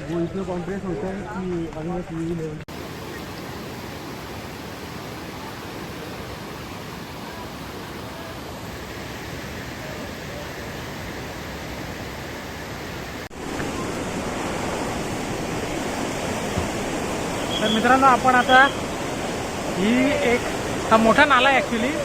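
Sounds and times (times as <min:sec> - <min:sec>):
fast-flowing stream water rushing: 0:02.7 - 0:22.0.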